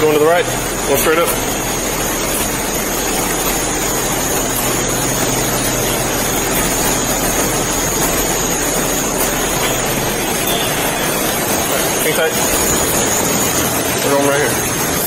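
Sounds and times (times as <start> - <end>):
car engine idling: 0.0 - 15.0
thin high whine: 0.0 - 15.0.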